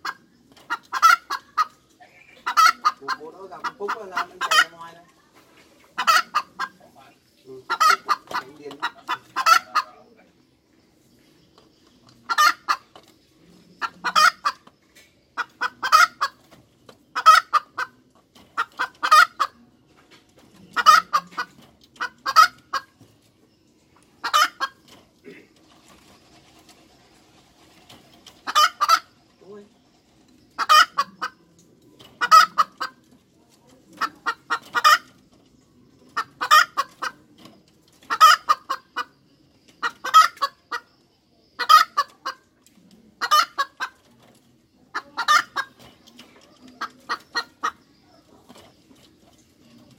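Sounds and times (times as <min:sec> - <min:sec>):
hen clucking: 0:00.0 - 0:49.9.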